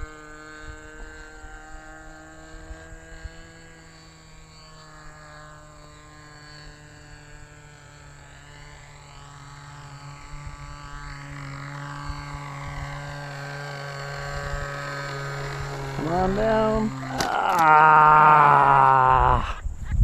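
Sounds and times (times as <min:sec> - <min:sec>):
model aircraft propeller droning: 0:00.0 - 0:19.9.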